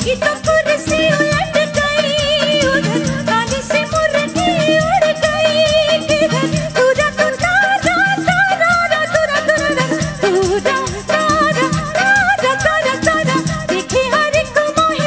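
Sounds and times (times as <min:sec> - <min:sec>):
steady percussion beat: 0:00.0 - 0:15.0
wavering melody line: 0:00.2 - 0:15.0.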